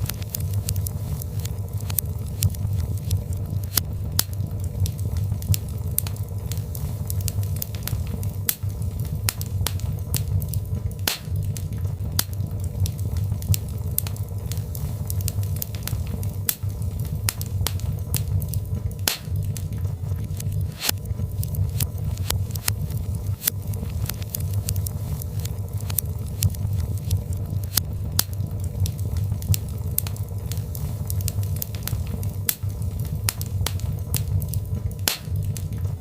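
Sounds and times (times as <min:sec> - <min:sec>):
log fire crackling and popping: 0:00.0 - 0:36.0.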